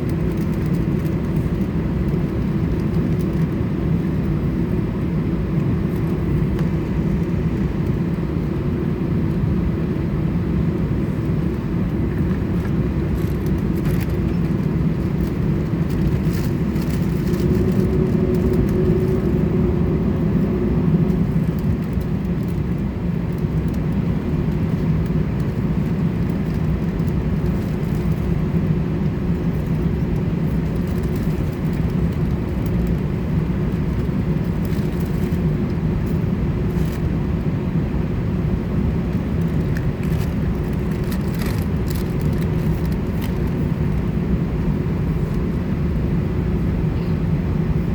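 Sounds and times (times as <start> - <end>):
jet engine cabin drone: 0.0 - 47.9.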